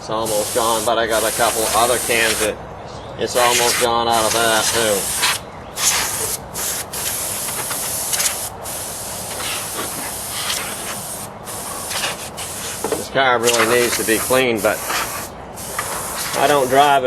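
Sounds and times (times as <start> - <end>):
compressed air spraying hiss: 0.0 - 2.6, 3.4 - 17.0.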